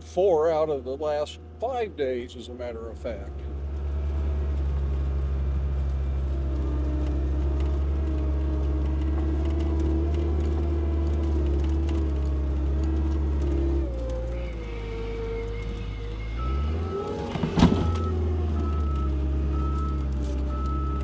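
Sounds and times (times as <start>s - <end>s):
engine whine: 0.0s - 21.0s
skid steer engine running: 0.0s - 21.0s.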